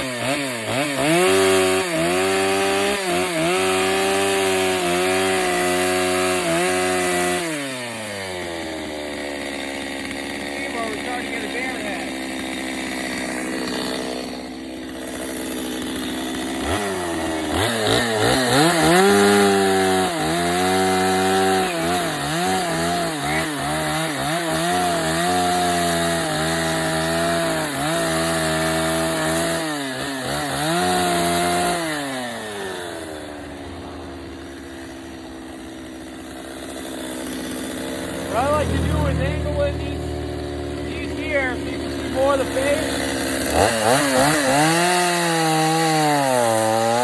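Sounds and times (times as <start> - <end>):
chainsaw idling and cutting wood: 0.0 - 47.0.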